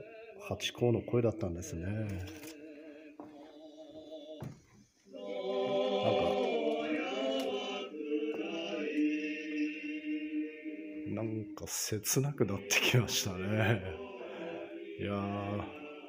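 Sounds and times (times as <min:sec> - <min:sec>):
gramophone record singing voice: 0:00.0 - 0:16.0.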